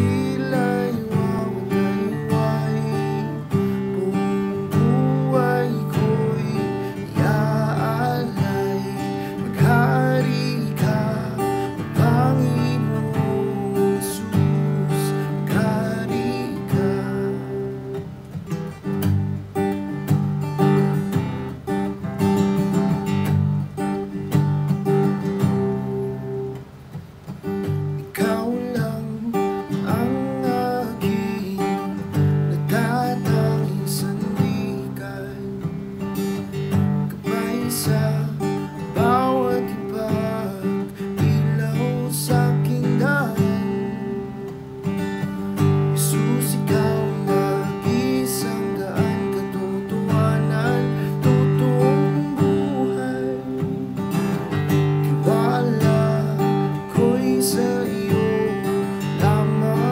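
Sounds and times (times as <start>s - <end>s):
person singing: 0.0s - 18.1s, 28.2s - 44.8s, 45.6s - 59.9s
acoustic guitar strumming: 0.0s - 59.9s.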